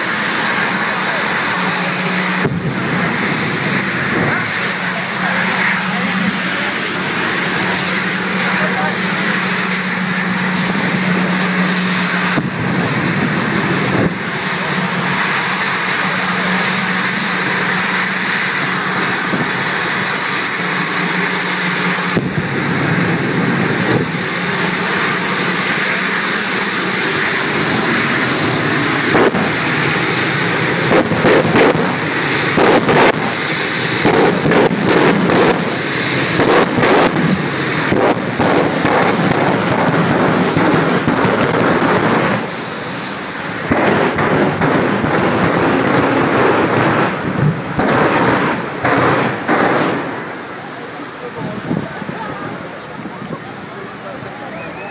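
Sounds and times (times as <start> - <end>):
afterburner bangs: 0.0 - 50.8
jet engine turbine whine: 0.0 - 54.9.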